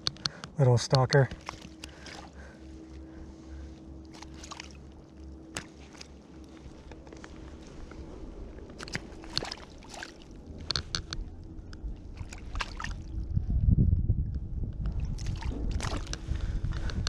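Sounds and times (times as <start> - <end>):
water splashing and sloshing: 0.0 - 13.4, 14.8 - 17.0
low rumble: 1.2 - 17.0.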